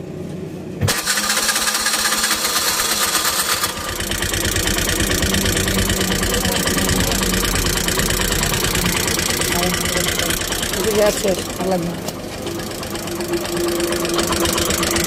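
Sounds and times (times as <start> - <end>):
auto-rickshaw engine running: 0.8 - 15.0.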